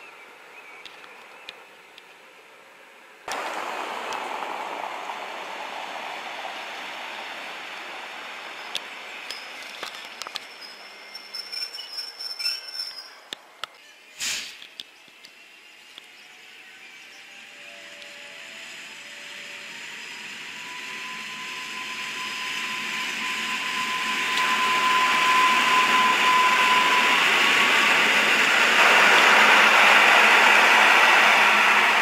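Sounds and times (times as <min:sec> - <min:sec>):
electric train passing on rails: 0:00.0 - 0:32.0
thin steady whine: 0:01.8 - 0:11.5, 0:14.9 - 0:32.0.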